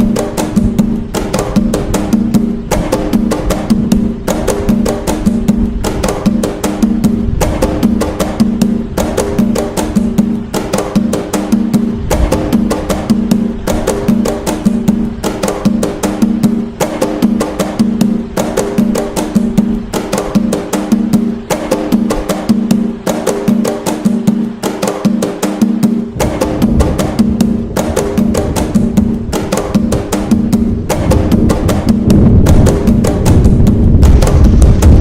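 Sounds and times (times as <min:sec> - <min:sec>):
hand drums playing fast rhythm: 0:00.0 - 0:35.0.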